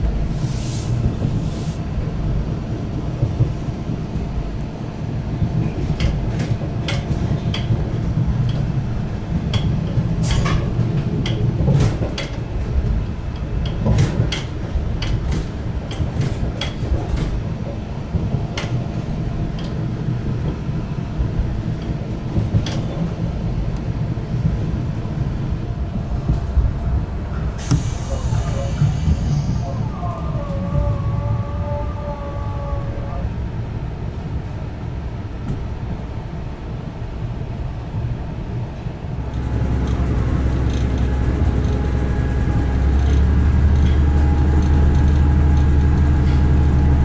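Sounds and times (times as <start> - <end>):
railcar engine and wheels rumbling: 0.0 - 47.0.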